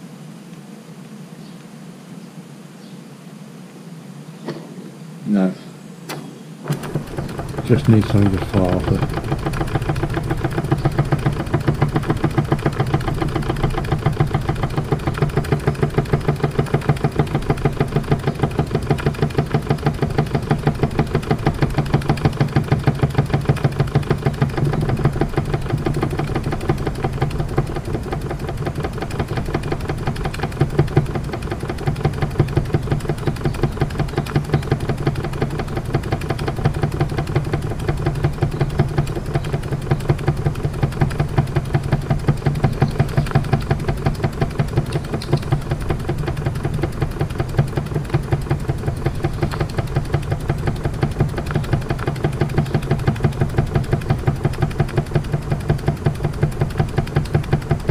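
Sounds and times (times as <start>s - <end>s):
toy steam engine rapid beat: 6.7s - 57.9s.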